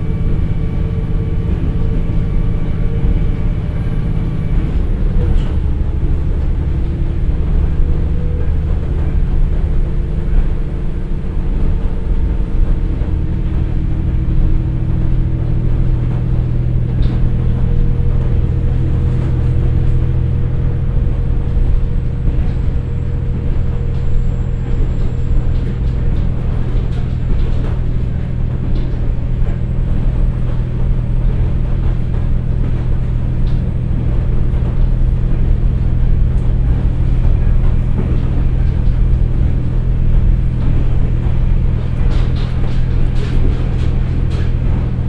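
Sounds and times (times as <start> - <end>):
diesel engine low drone: 0.0 - 45.0
wheels rumbling on rail: 0.0 - 45.0.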